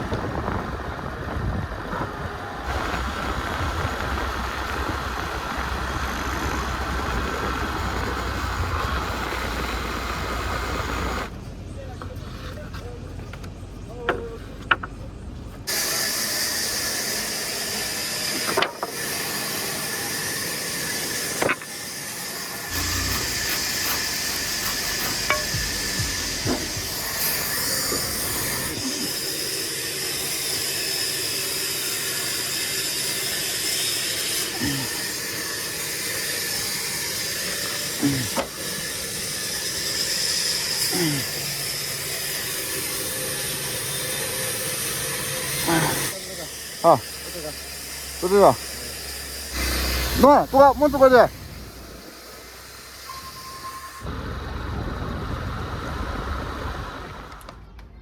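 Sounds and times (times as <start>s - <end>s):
steady hiss: 2.6s - 11.3s, 15.7s - 57.4s.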